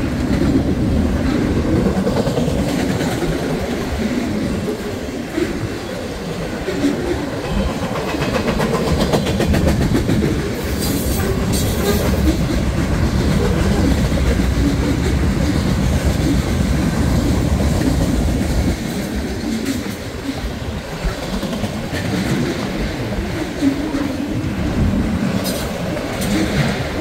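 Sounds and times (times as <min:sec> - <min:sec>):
freight train rumbling past: 0:00.0 - 0:27.0
wheels clacking over rail joints: 0:00.0 - 0:27.0.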